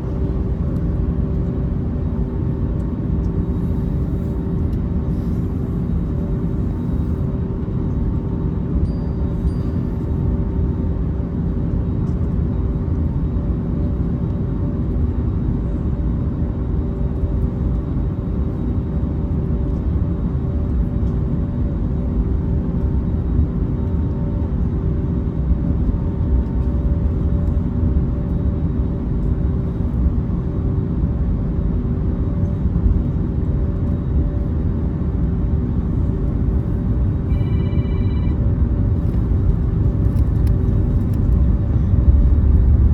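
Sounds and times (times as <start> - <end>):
jet engines rumbling in cabin: 0.0 - 42.9.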